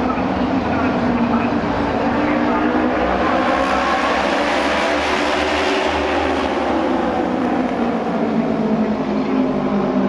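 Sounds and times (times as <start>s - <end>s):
racing motorcycle engines: 0.0s - 10.0s.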